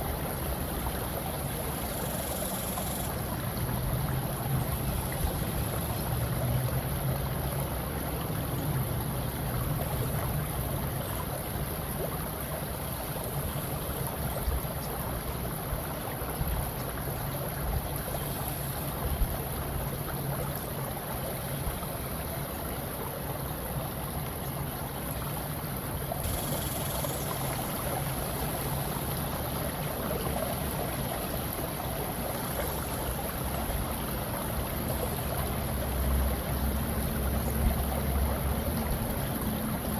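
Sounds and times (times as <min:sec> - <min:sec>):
flowing lapping water: 0:00.0 - 0:39.9.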